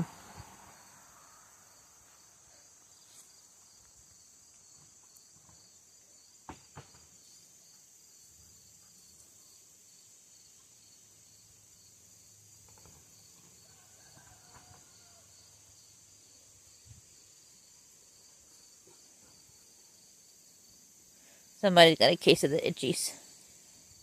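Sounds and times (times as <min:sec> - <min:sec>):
faint high-pitched hiss: 0:00.0 - 0:24.0.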